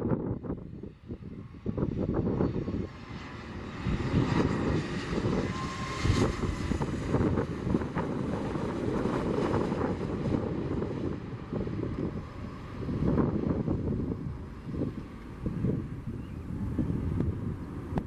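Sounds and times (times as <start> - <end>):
airliner engines rumbling: 0.0 - 18.0
wind buffeting microphone: 0.0 - 18.0.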